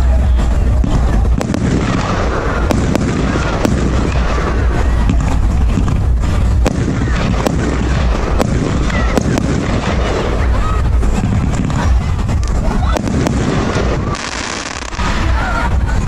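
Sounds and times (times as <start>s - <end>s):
fireworks bangs and cracks: 0.0s - 16.0s
low rumble: 0.0s - 16.0s.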